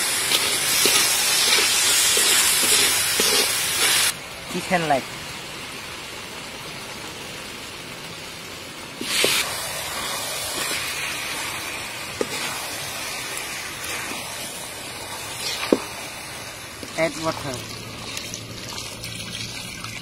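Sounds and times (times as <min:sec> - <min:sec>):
food sizzling in a hot pan: 0:00.0 - 0:19.3.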